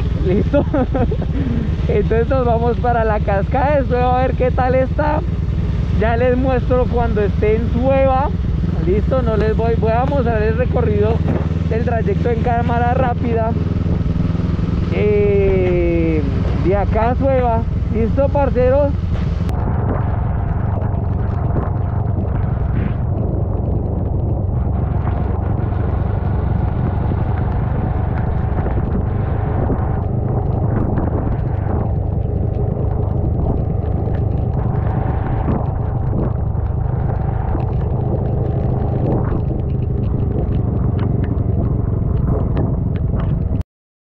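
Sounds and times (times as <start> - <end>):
motorcycle engine running: 0.0 - 43.6
wind rumble on microphone: 0.0 - 43.6.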